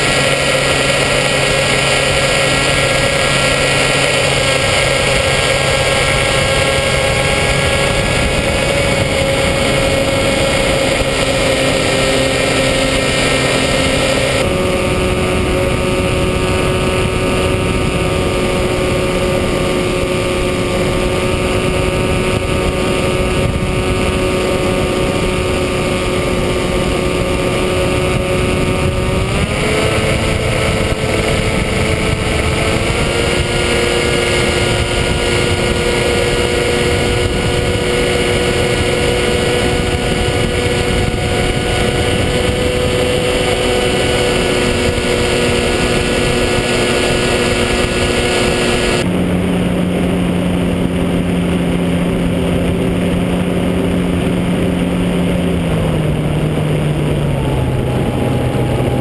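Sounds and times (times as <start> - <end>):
electric motor and propeller whining: 0.0 - 59.0.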